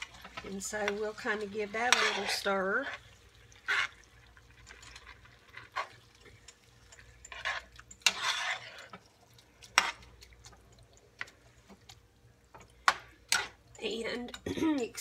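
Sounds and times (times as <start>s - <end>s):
spoon scraping a skillet: 0.0s - 12.0s, 12.6s - 14.4s.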